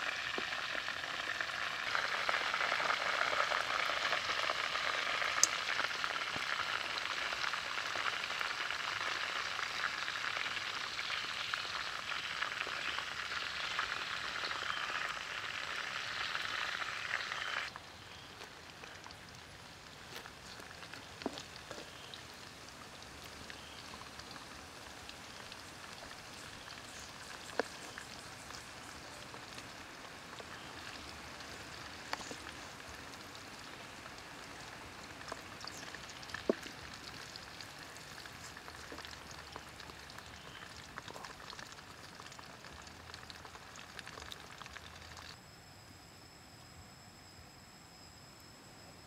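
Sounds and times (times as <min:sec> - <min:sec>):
deep-frying sizzle in oil: 0:00.0 - 0:49.0.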